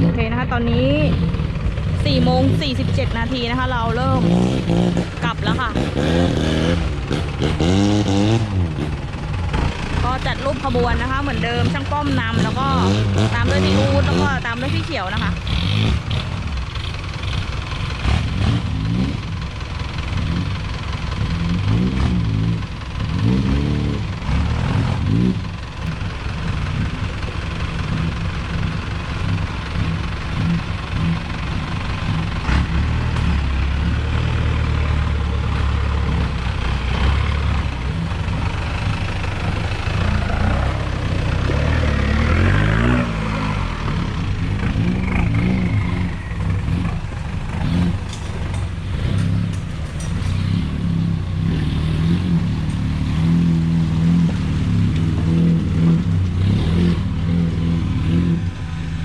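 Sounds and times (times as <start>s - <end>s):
off-road vehicle engine running: 0.0s - 59.0s.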